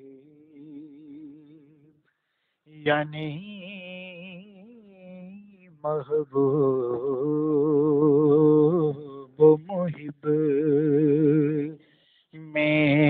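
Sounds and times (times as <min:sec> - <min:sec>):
man singing devotional verse: 0:00.0 - 0:02.0, 0:02.7 - 0:13.0.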